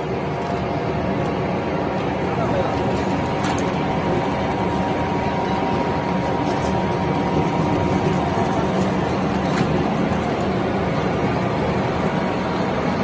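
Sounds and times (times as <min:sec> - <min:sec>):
shredder machine running: 0:00.0 - 0:13.0.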